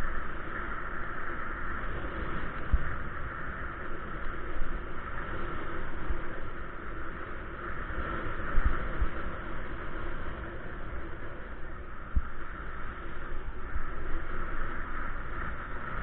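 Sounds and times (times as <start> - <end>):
wind buffeting microphone: 0.0 - 16.0
wind noise: 0.0 - 16.0.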